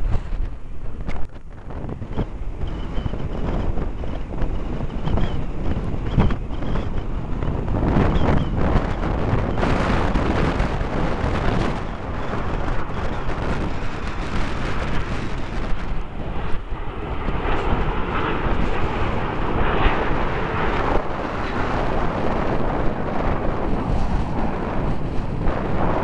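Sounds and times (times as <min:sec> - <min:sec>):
jets flying past: 0:00.0 - 0:26.0
wind buffeting microphone: 0:00.0 - 0:26.0.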